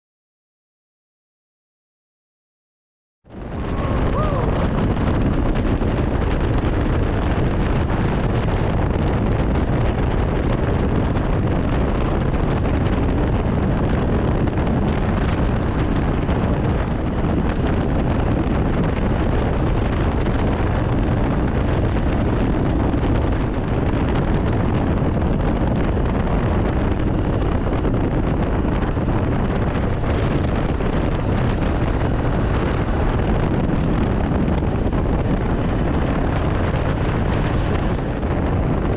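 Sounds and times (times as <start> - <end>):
wind rushing over microphone: 3.2 - 38.9.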